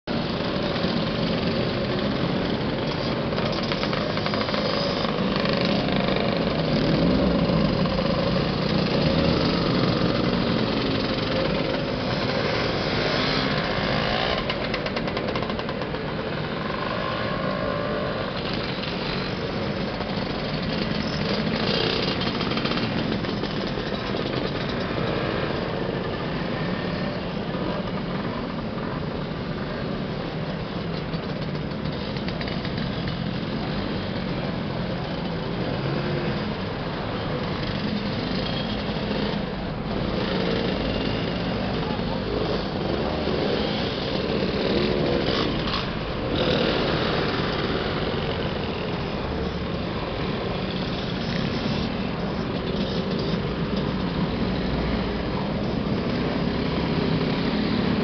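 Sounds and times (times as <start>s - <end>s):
two-stroke scooters riding past: 0.2s - 58.0s.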